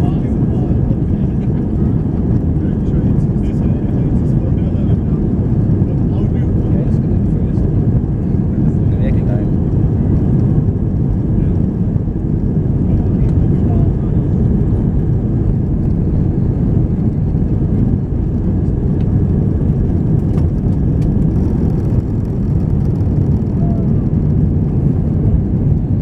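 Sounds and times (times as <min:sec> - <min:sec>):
airliner cabin noise: 0:00.0 - 0:26.0.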